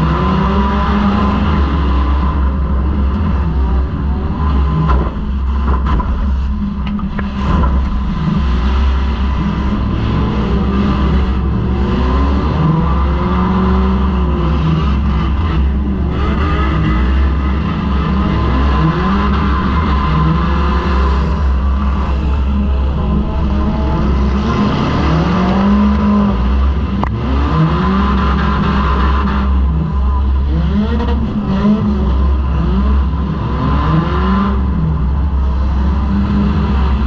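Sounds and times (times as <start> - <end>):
car engine revving hard: 0.0 - 6.6, 7.2 - 37.0.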